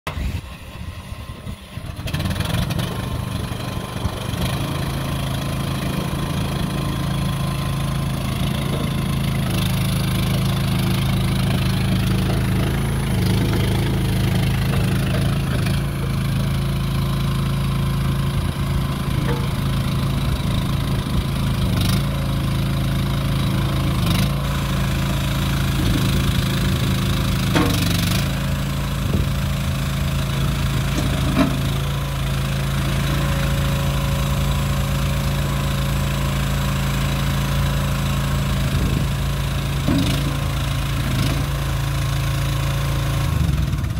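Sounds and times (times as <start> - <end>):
skid steer engine running: 0.1 - 43.9.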